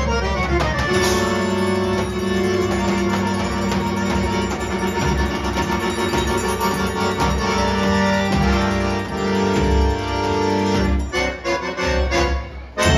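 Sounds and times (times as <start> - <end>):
accordion chords: 0.0 - 12.9.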